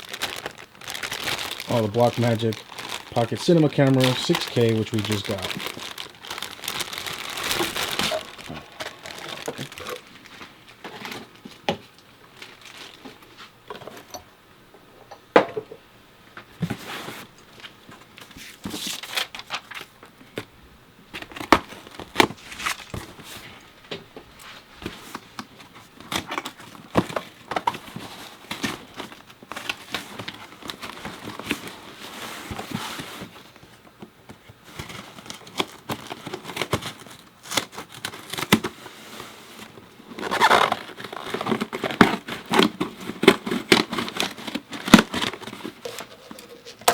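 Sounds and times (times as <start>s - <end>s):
packaging crinkling: 0.0s - 13.4s, 17.5s - 20.0s, 21.2s - 23.7s, 24.9s - 38.9s, 39.5s - 46.9s.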